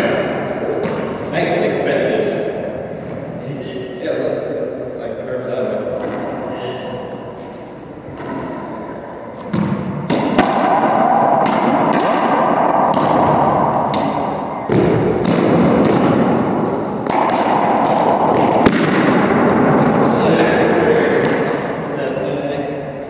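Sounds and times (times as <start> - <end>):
racquetball hits echoing in court: 0.0 - 3.4, 5.6 - 23.0.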